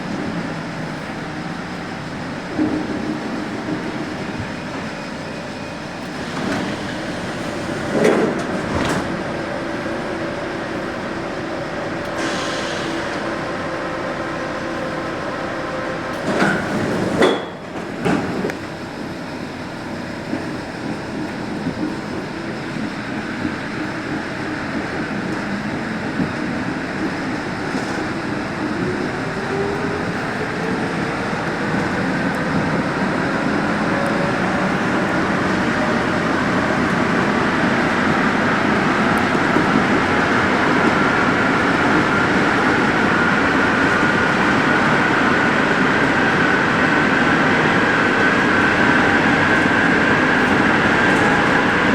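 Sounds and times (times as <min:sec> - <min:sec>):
metro train running: 0:00.0 - 0:51.9.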